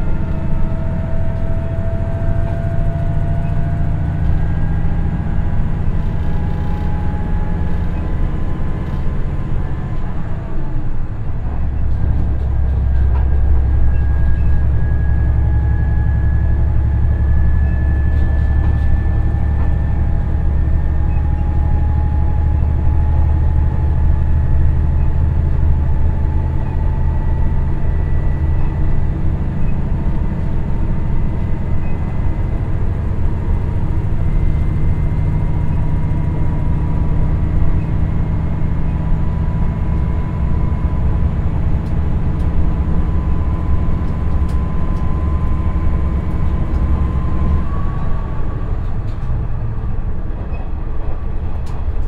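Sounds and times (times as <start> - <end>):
diesel railcar engine and wheel rumble: 0.0 - 52.0
rising whine: 0.0 - 52.0.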